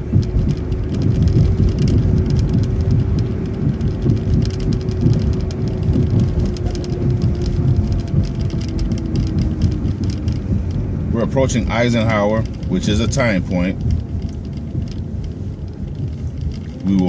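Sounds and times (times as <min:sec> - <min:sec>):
bus engine and road rumble: 0:00.0 - 0:17.0
constant whine: 0:00.0 - 0:17.0
light rattles: 0:00.0 - 0:17.0.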